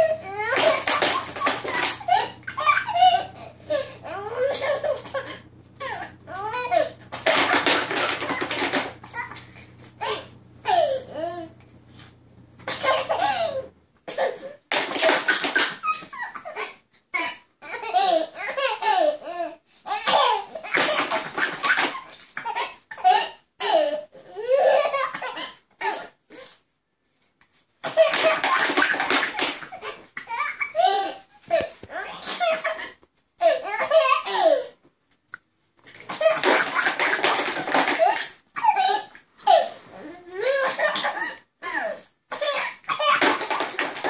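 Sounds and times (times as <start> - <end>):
toddler laughing: 0.0 - 11.6, 12.7 - 25.4, 27.8 - 34.8, 36.0 - 44.0.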